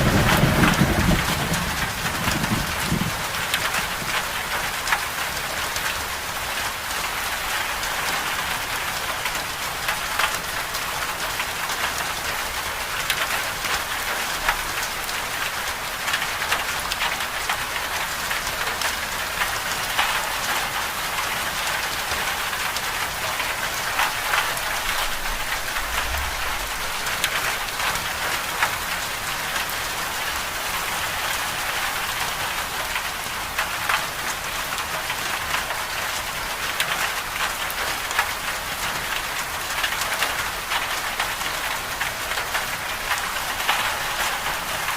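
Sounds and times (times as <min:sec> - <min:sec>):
rain on hard surface: 0:00.0 - 0:44.9
raindrops ticking: 0:00.0 - 0:44.9.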